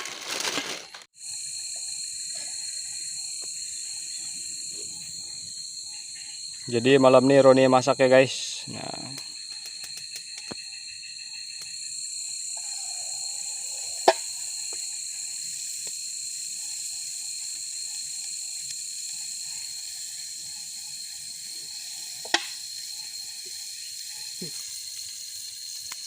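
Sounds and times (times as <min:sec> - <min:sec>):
night insects trilling: 0:00.0 - 0:26.0.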